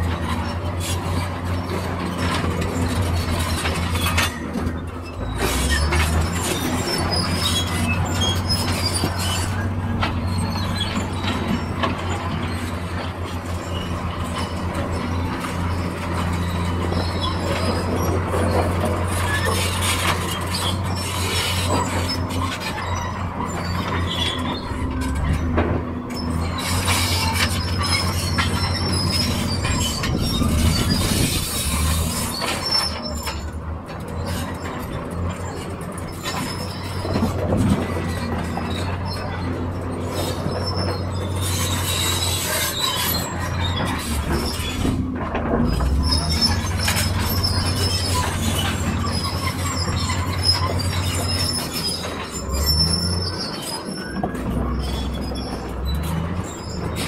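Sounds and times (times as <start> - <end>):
crawler tracks squealing and clanking: 0.0 - 57.0
diesel engine droning: 0.0 - 57.0.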